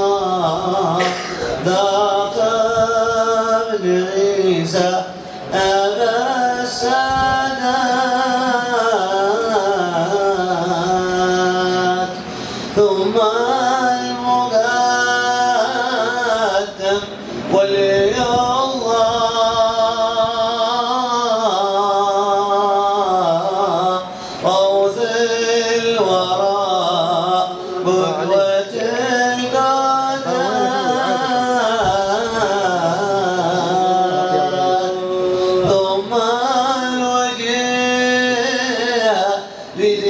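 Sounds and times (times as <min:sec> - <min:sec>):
man singing religious song: 0:00.0 - 0:40.0.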